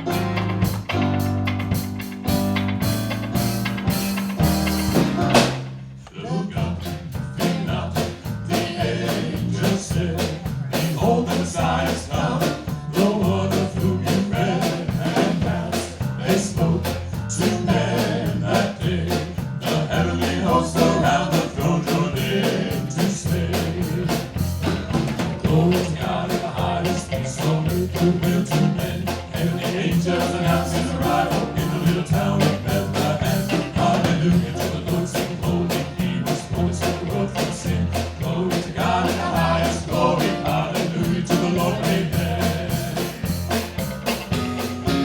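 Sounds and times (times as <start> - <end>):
country-rock band with singing: 0.0 - 45.0.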